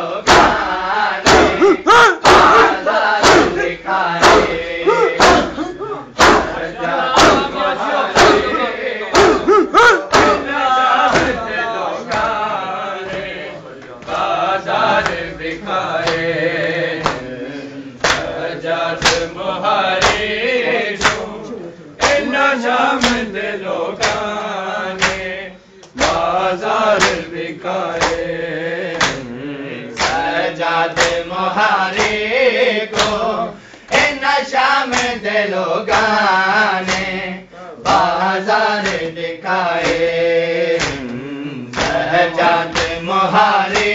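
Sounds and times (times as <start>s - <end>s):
men chanting in unison: 0.0s - 43.9s.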